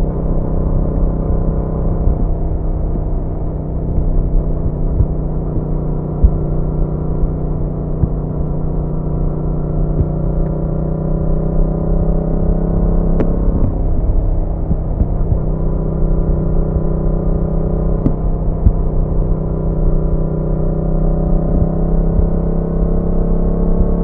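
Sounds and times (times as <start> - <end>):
motorcycle engine and exhaust: 0.0 - 24.0
road and wind noise: 0.0 - 24.0.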